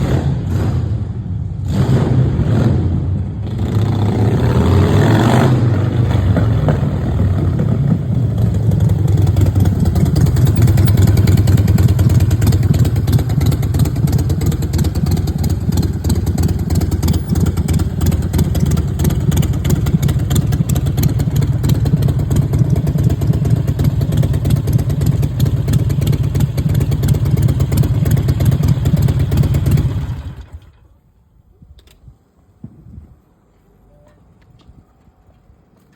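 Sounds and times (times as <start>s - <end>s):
motorcycle engine revving and idling: 0.0s - 30.8s.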